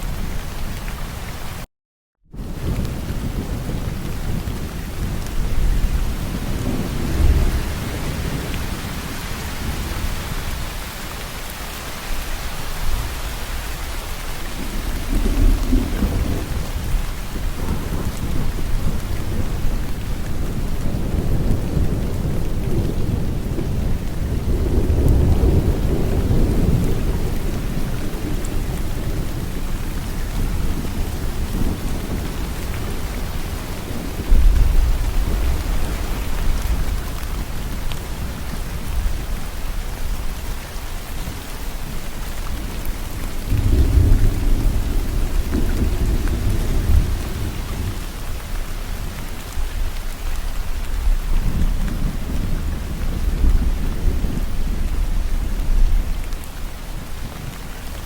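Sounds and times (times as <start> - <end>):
heavy rainfall: 0.0 - 1.7, 2.3 - 58.0
low rolling thunder: 2.3 - 11.0, 12.0 - 58.0.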